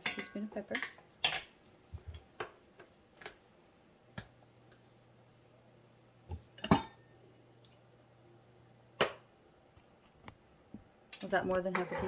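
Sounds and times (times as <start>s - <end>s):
faint low hum: 1.6s - 12.0s.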